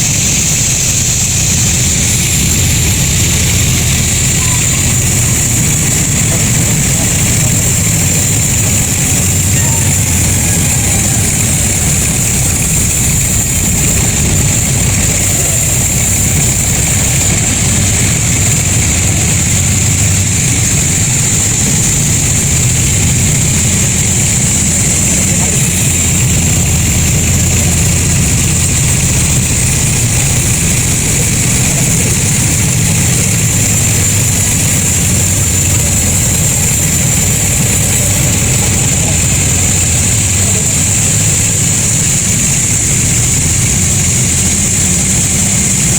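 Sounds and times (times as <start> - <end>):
high-pitched machinery whine: 0.0 - 45.9
low engine hum: 0.0 - 45.9.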